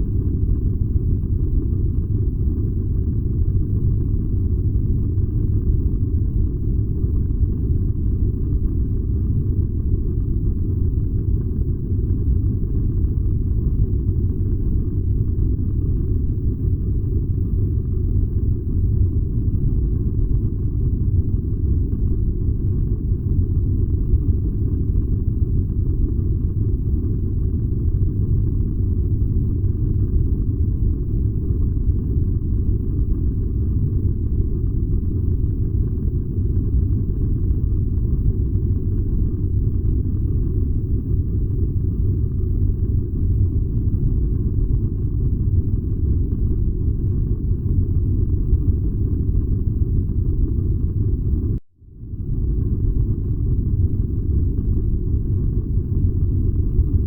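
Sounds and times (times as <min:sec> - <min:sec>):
furnace low rumble: 0:00.0 - 0:57.0.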